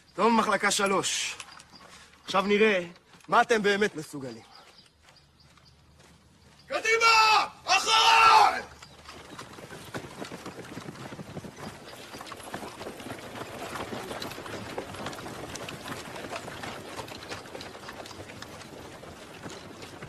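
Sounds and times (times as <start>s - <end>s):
boots running on dirt: 1.4s - 20.0s.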